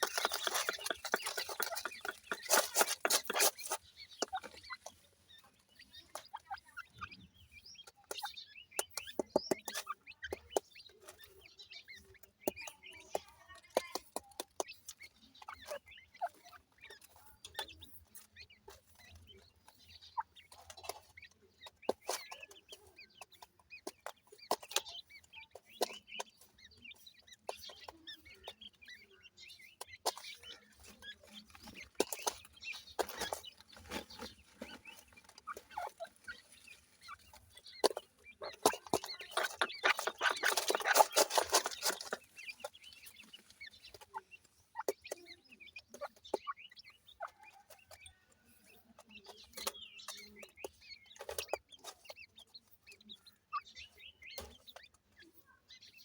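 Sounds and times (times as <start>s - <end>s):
pheasant chicks cheeping: 0.0s - 56.0s.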